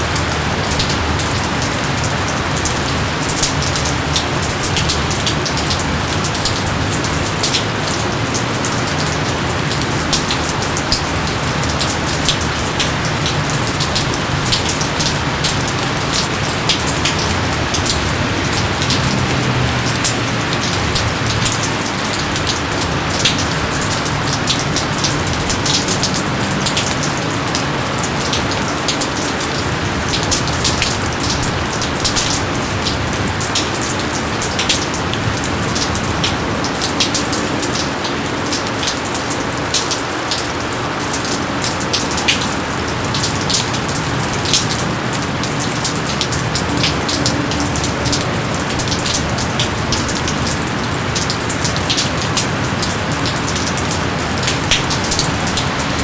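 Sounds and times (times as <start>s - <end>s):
heavy rain hissing: 0.0s - 38.7s, 39.3s - 56.0s
raindrops pattering on leaves: 0.0s - 56.0s.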